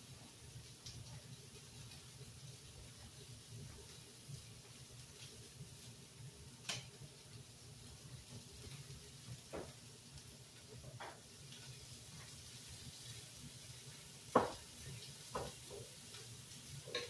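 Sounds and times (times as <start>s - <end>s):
chicken sizzling on grill pan: 0.0s - 17.0s
pasta water boiling: 0.0s - 17.0s.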